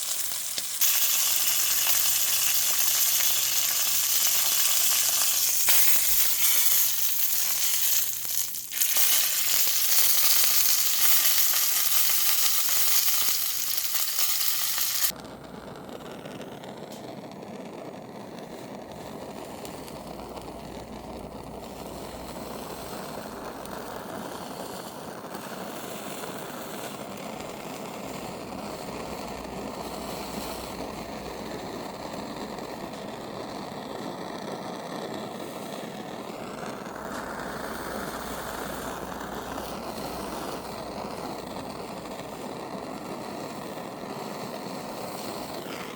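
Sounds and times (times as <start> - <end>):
steak sizzling in hot fat: 0.0 - 15.2, 16.0 - 45.9.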